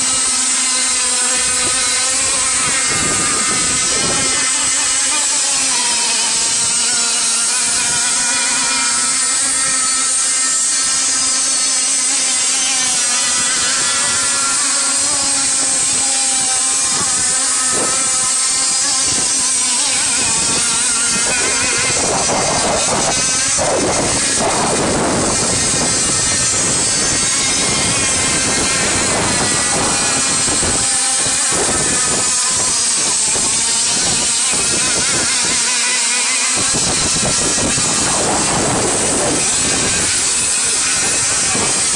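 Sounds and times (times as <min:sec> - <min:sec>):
model boat motor whine: 0:00.0 - 0:41.9
rushing noise: 0:00.0 - 0:41.9.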